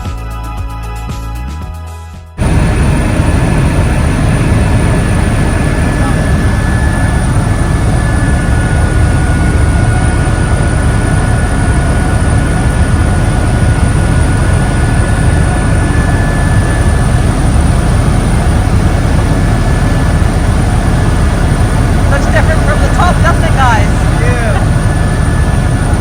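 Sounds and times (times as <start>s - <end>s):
helicopter rotor and engine: 2.4s - 26.0s.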